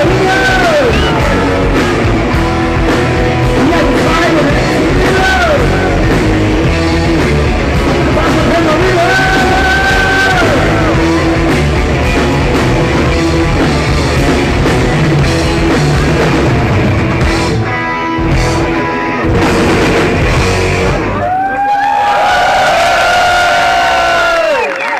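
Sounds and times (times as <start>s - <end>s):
drum kit: 0.0s - 21.7s
live rock band playing: 0.0s - 24.8s
electric guitar: 0.0s - 24.9s.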